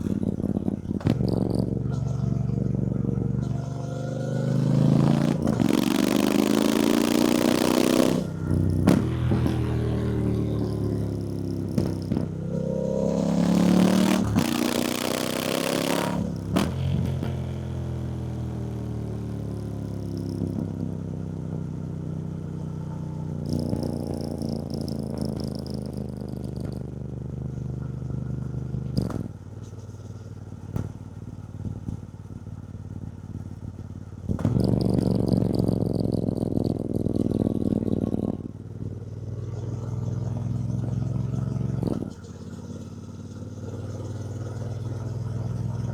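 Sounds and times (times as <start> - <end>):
motorcycle engine under way: 0.0 - 45.9.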